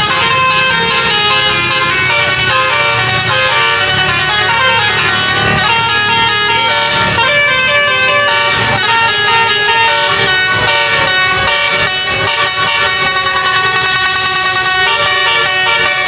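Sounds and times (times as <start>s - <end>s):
musical air horn playing tune: 0.0s - 16.0s.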